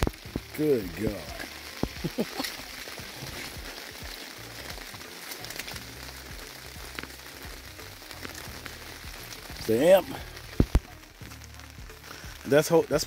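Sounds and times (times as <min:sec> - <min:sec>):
rain pattering on car body: 0:00.0 - 0:13.0.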